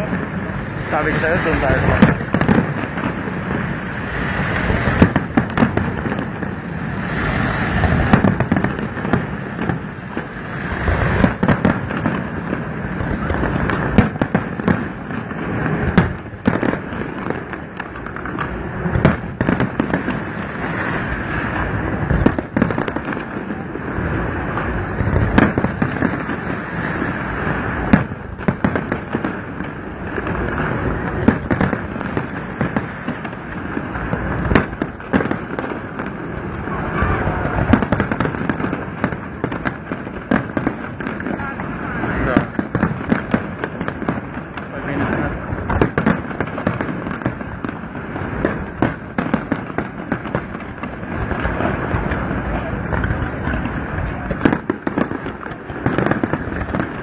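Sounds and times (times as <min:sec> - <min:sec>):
firework shells bursting: 0:00.0 - 0:23.8, 0:24.4 - 0:57.0
rumble of firework launches: 0:00.0 - 0:57.0.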